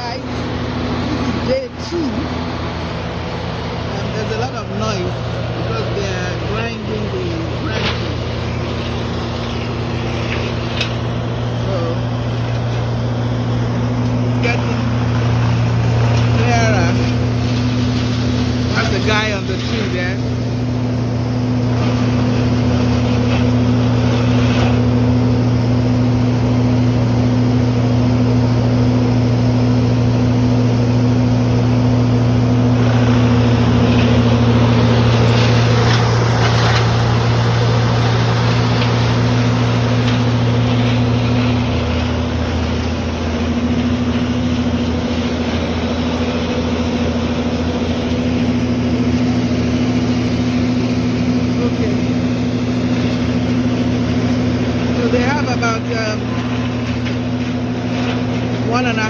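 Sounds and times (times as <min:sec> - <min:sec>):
wood chipper engine droning: 0:00.0 - 0:59.0.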